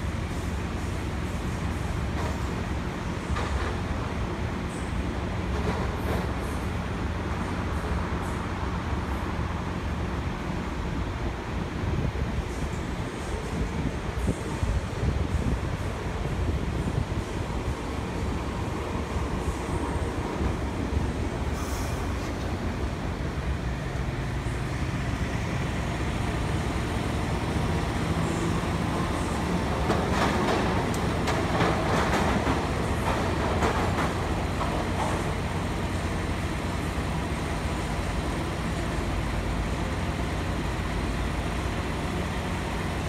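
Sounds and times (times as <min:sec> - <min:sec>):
streetcar wheels clicking and rumbling: 0:00.0 - 0:43.0.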